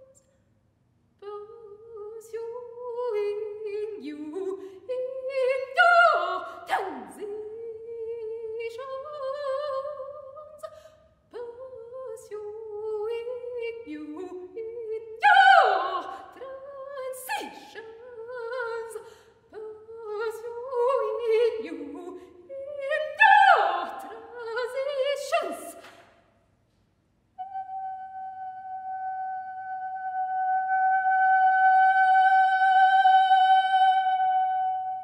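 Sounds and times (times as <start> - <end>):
soprano singing a cappella: 1.2 - 25.8, 27.4 - 35.0.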